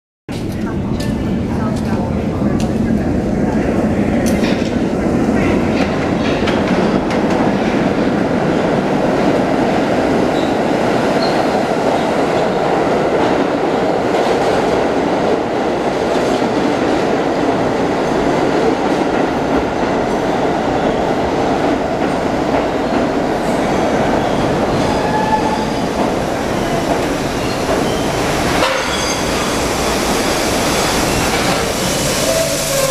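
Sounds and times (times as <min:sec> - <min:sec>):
subway train rumbling on rails: 0:00.3 - 0:32.9.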